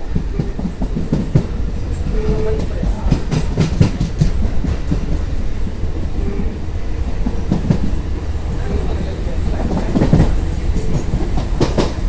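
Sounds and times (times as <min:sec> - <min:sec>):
train rumble: 0:00.0 - 0:12.0
wheels clicking over rail joints: 0:00.0 - 0:12.0.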